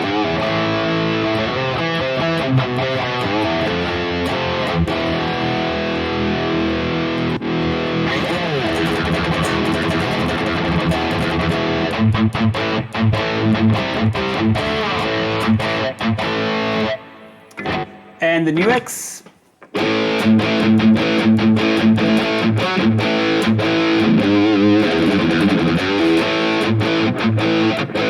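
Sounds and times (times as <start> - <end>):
distorted electric guitar: 0.0 - 18.3, 19.6 - 28.0.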